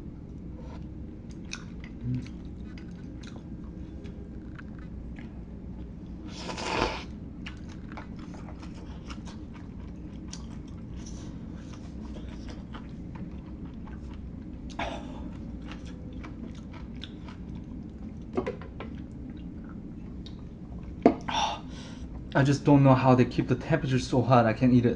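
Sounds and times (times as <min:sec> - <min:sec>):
low hum: 0:00.0 - 0:24.9
person chewing food: 0:00.6 - 0:21.3.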